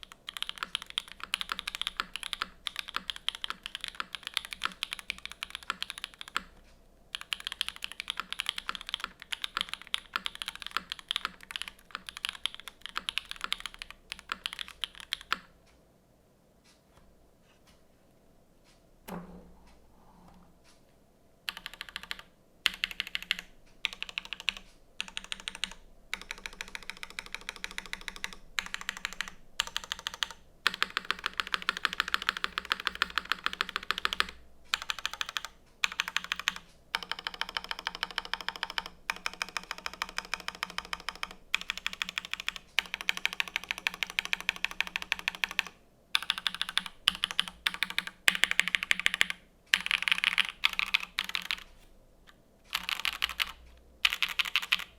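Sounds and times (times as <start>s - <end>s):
typing on mechanical keyboard: 0.0s - 15.5s, 21.5s - 51.8s, 52.7s - 54.9s.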